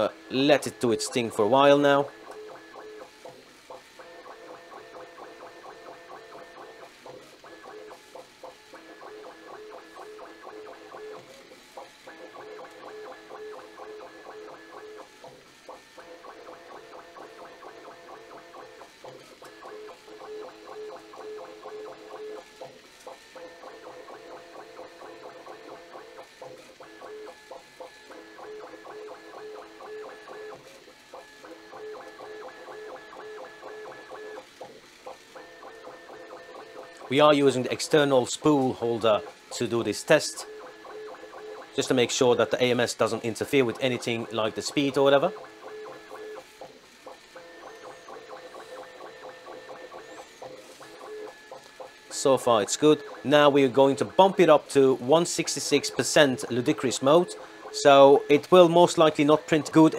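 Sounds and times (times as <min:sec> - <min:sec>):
printer stepper motors whining: 0:00.0 - 0:59.9.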